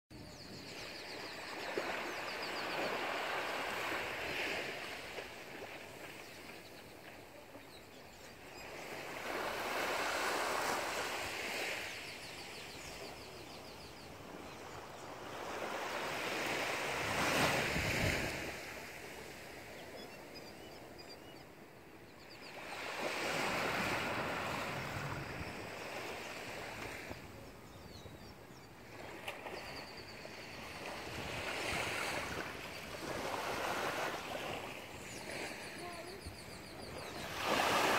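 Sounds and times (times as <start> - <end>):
small waves breaking on sand: 0.7 - 20.0, 22.5 - 27.7, 28.8 - 37.9.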